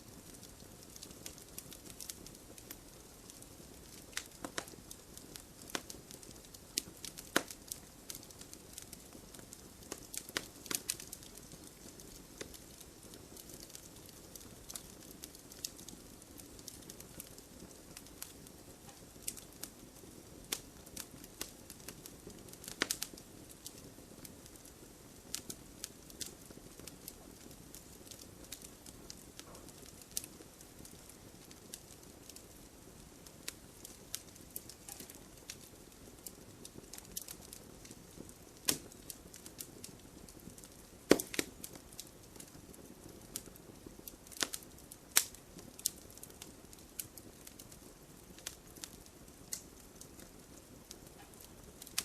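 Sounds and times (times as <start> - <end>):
firewood crackling and popping: 0.0 - 52.0.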